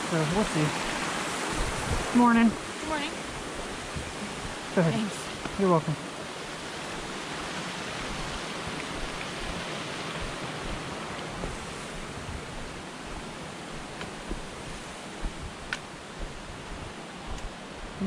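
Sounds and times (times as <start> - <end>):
mountain creek rushing: 0.0 - 18.0.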